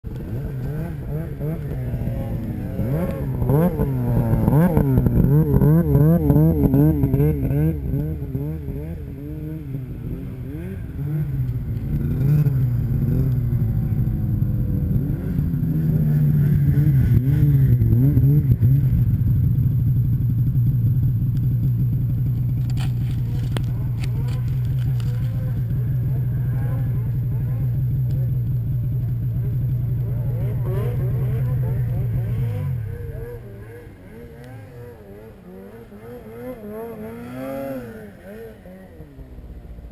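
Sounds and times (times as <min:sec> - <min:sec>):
snowmobile engine revving: 0:00.1 - 0:19.3, 0:21.8 - 0:39.9.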